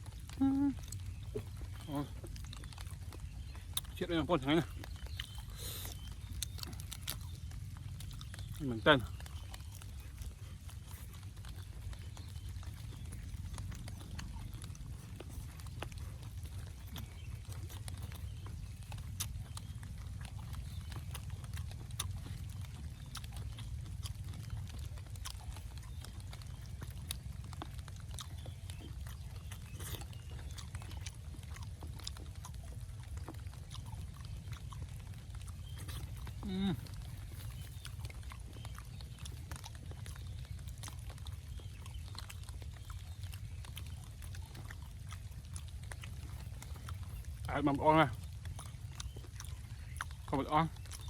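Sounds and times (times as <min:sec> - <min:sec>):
chewing and lip-smacking: 0:00.0 - 0:51.0.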